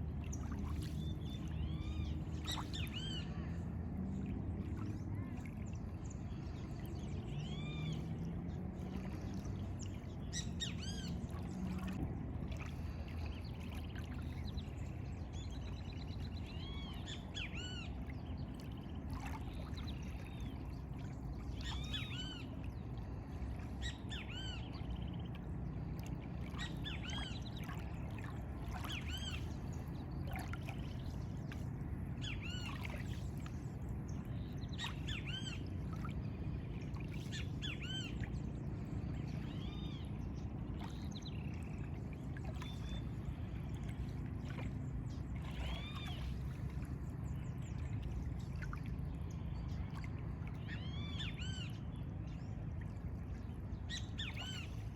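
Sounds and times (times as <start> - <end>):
low background rumble: 0.0 - 54.9.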